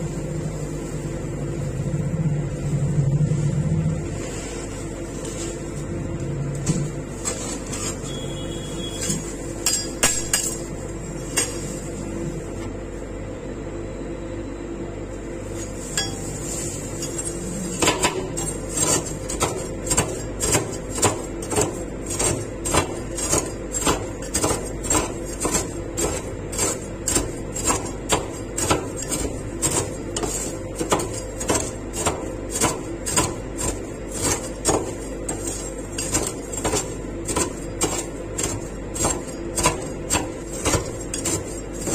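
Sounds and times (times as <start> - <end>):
steady hum: 0.0 - 41.9.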